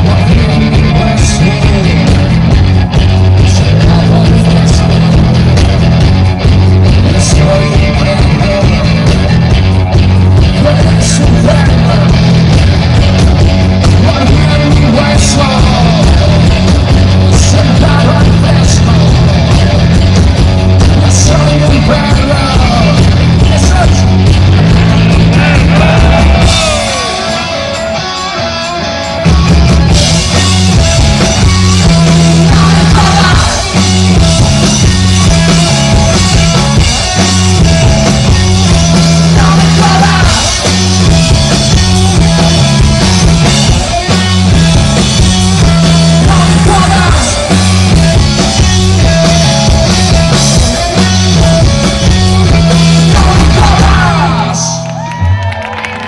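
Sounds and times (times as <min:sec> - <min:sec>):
loud rock music with singing: 0:00.0 - 0:56.0.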